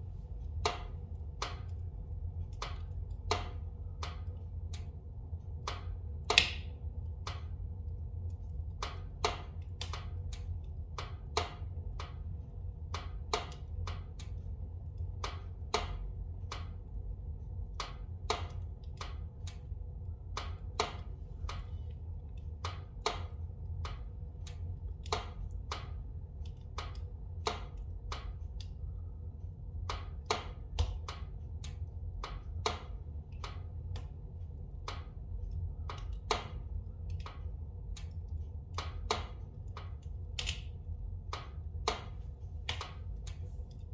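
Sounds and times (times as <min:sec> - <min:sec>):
low fire rumble: 0:00.0 - 0:43.9
logs crackling and popping in fire: 0:00.1 - 0:16.9, 0:17.7 - 0:28.8, 0:29.8 - 0:43.9.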